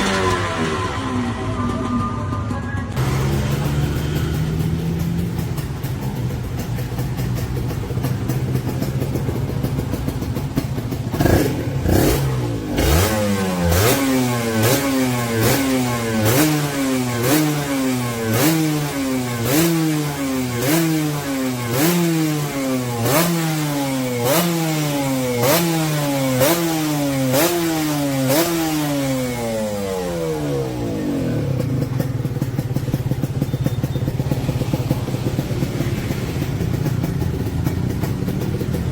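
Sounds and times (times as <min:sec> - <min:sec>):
two-stroke motorcycle revving: 0:00.0 - 0:38.9.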